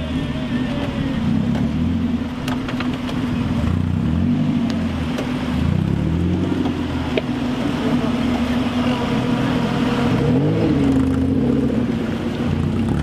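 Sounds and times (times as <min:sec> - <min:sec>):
engine revving under load: 0:00.0 - 0:13.0.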